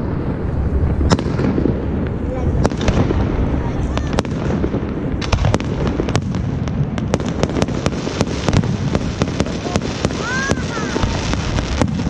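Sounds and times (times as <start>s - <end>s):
fireworks booming and cracking: 0.0s - 12.0s.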